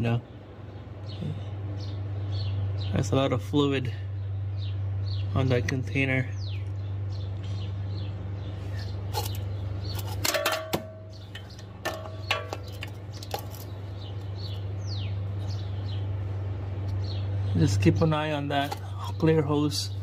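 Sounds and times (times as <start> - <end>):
bird chirping: 0.0 - 20.0
steady low hum: 0.0 - 20.0.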